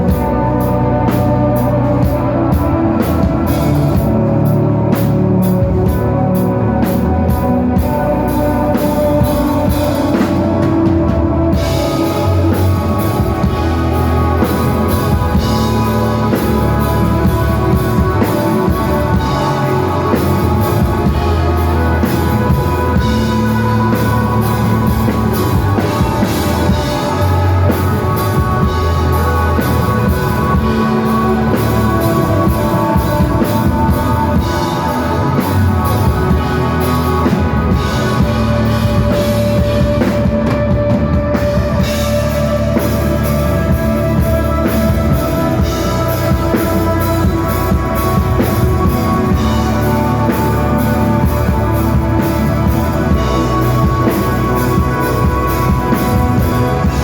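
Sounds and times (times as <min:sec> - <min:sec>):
bass: 0:00.0 - 0:57.0
drum kit beat: 0:00.0 - 0:57.0
electric guitar holding long notes: 0:00.0 - 0:57.0.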